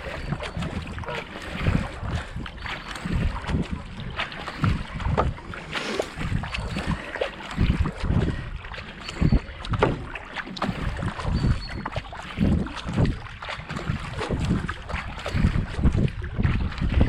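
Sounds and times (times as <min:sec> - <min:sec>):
paddle splashing in water: 0:00.0 - 0:17.0
water washing along hull: 0:00.0 - 0:17.0
wind on microphone: 0:00.0 - 0:17.0.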